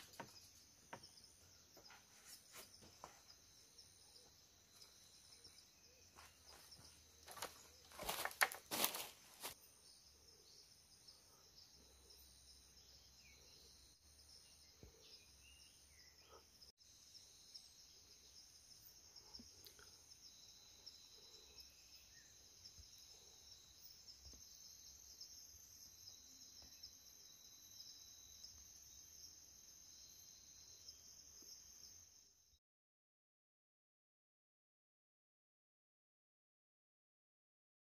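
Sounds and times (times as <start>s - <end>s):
high-pitched insect chorus: 0.0s - 32.6s.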